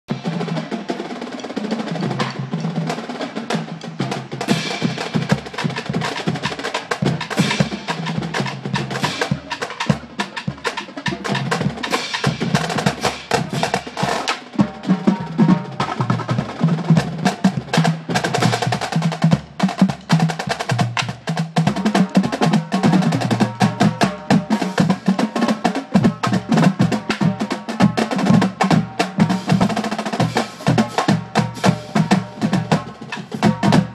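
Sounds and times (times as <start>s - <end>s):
snare drums: 0.1s - 33.9s
tenor drums: 0.1s - 33.9s
bass drums: 4.0s - 33.9s.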